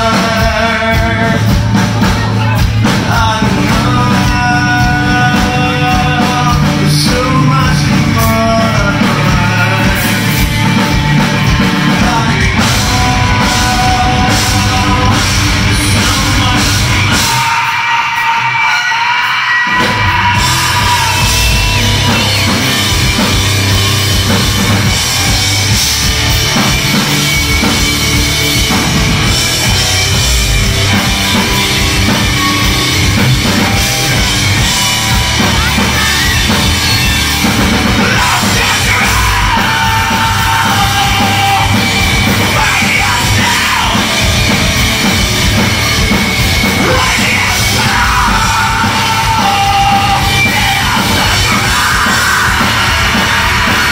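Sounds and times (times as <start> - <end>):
bass guitar: 0.0 - 53.9
drum kit: 0.0 - 53.9
electric guitar: 0.0 - 53.9.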